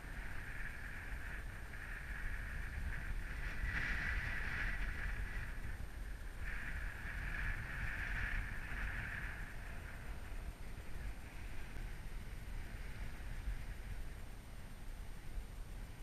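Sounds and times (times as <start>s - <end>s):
wind gusting on microphone: 0.0s - 16.0s.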